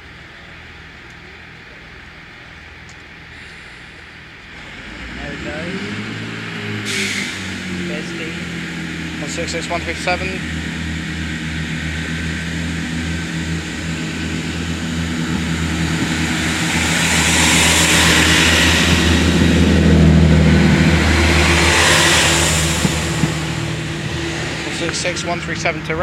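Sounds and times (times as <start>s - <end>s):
diesel train engine drone: 0.0s - 26.0s
rush of train wheels and air: 3.2s - 26.0s.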